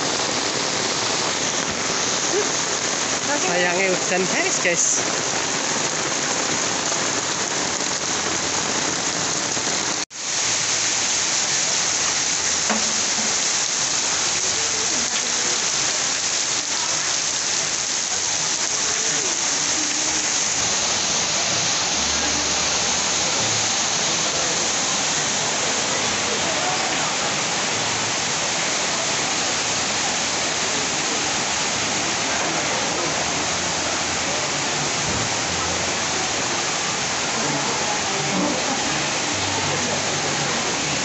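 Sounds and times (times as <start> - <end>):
heavy rain on paving and plants: 0.0 - 41.0.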